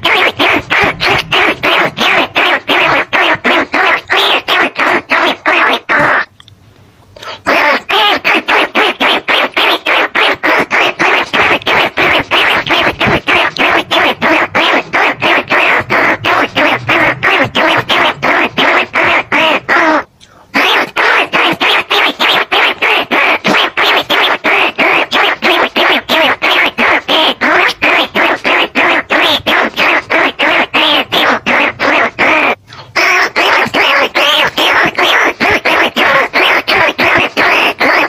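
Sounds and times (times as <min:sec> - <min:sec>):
rapid rat squeaking: 0:00.0 - 0:06.3, 0:07.5 - 0:38.0.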